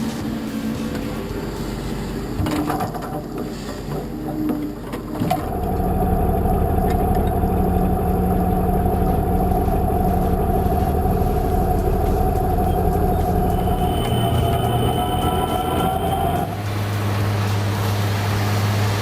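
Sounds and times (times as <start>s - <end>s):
heavy machine engine running: 0.0s - 19.0s.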